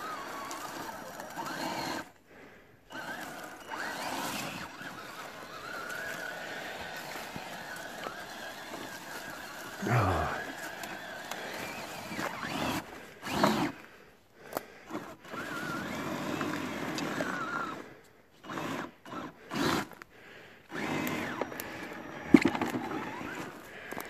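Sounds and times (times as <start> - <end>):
electric motor whine: 0.0 - 2.1, 2.9 - 13.8, 14.9 - 19.9, 20.7 - 24.0.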